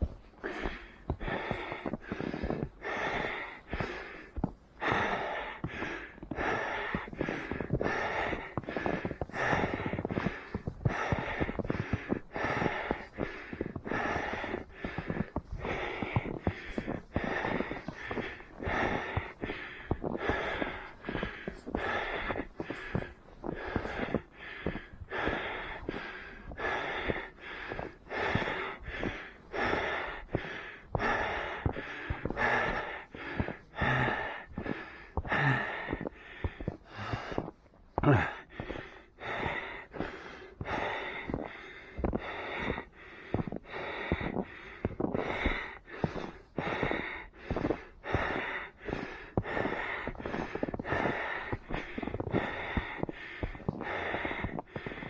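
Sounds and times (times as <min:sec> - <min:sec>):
runner breathing hard: 0:00.0 - 0:55.0.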